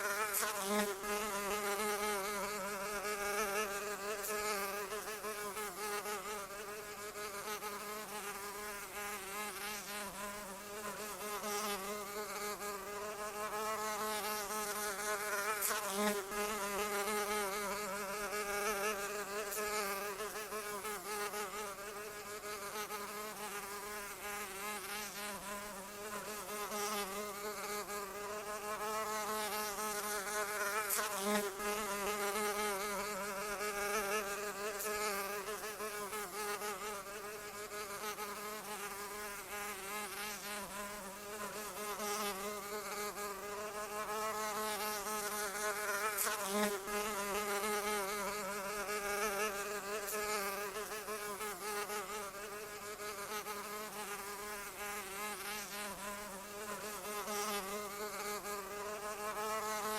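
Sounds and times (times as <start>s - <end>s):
fly buzzing: 0.0s - 59.9s.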